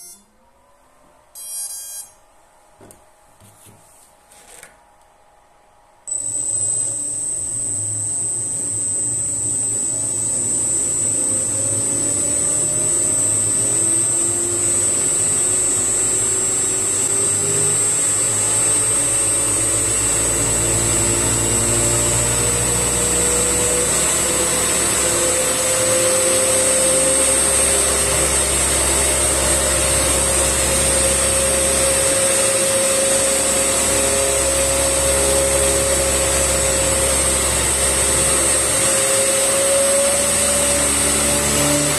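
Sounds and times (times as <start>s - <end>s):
high-pitched whine: 0.0s - 2.3s, 6.0s - 41.9s
electric motor whirring hum: 6.1s - 41.9s.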